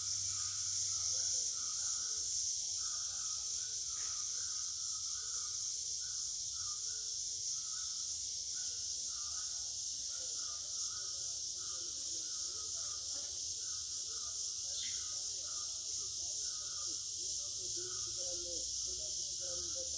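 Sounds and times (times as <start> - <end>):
high-pitched insect drone: 0.0 - 19.9
short mid-pitched insect call: 0.0 - 19.9.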